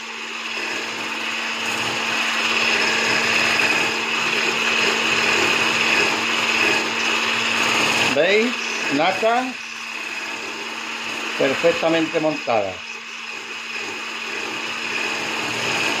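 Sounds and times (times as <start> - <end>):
electric hand blender whisking cream: 0.0 - 16.0.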